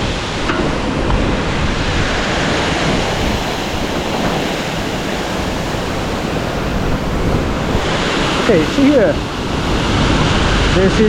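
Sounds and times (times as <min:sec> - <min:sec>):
stream rushing: 0:00.0 - 0:11.0.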